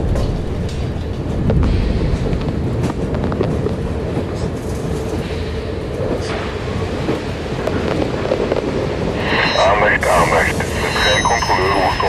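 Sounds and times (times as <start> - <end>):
train rumbling: 0.0 - 11.9.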